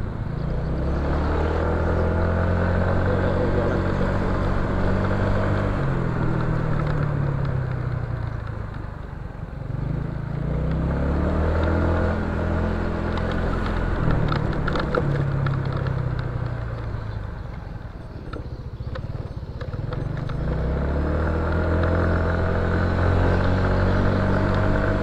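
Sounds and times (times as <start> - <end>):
motor scooter engine running: 0.0 - 25.0.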